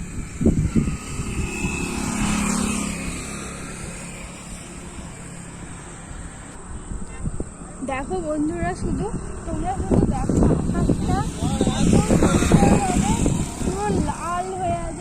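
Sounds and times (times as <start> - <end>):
motor vehicle passing by: 0.0 - 15.0.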